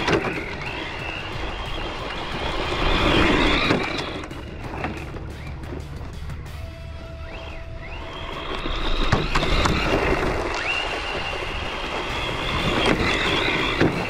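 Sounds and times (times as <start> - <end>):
electric motor whining: 0.0 - 14.0
tyres hissing on loose dirt: 0.0 - 14.0.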